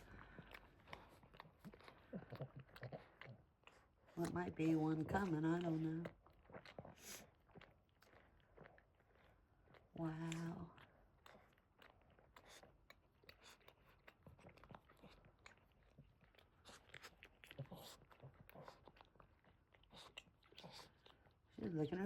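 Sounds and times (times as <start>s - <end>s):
dog licking its foot: 0.0s - 21.5s.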